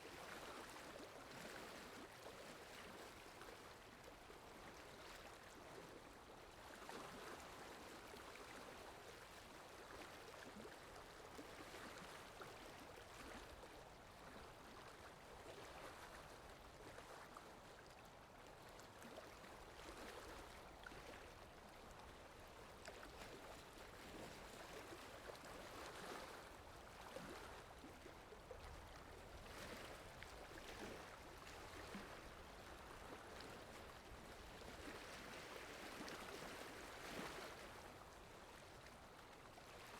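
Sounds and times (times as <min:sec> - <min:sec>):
wind: 0:00.0 - 0:39.9
water lapping: 0:00.1 - 0:39.9.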